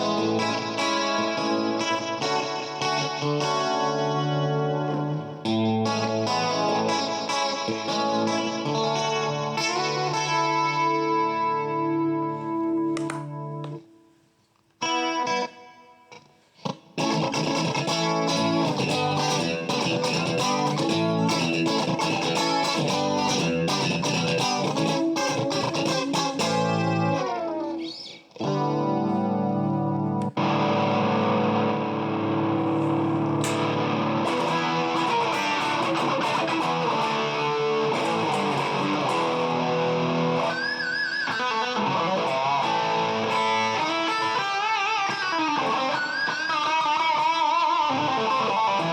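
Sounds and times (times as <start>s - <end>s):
distorted electric guitar: 0.0s - 14.0s, 14.8s - 48.9s.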